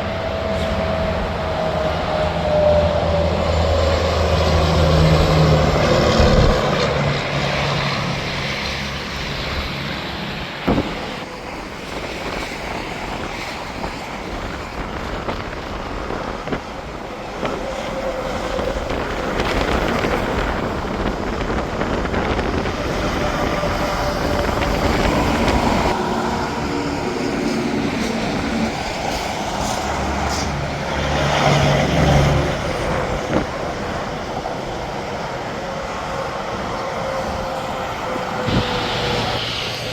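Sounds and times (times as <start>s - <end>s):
truck passing close: 0.0s - 12.1s, 17.4s - 39.9s
highway traffic: 0.0s - 39.9s.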